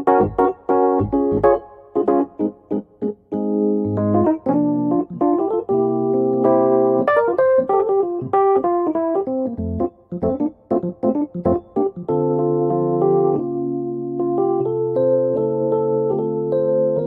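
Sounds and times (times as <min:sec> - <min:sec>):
electric piano music: 0:00.0 - 0:17.0.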